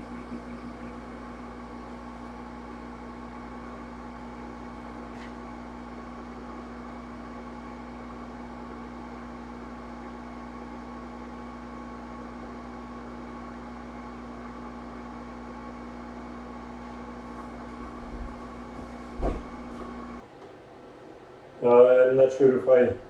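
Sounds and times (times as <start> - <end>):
small electric fan whirring: 0.0 - 23.0.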